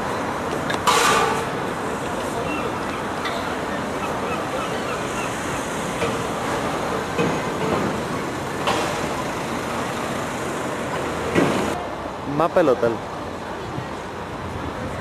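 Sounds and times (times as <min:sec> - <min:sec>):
road traffic: 0:00.0 - 0:15.0
passers-by talking: 0:00.1 - 0:15.0.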